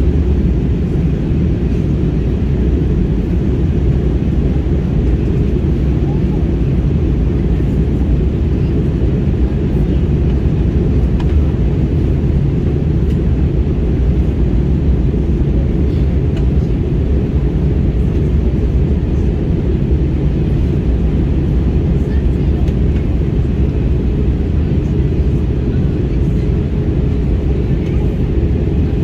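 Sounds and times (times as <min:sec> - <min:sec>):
airliner cabin drone: 0:00.0 - 0:29.0.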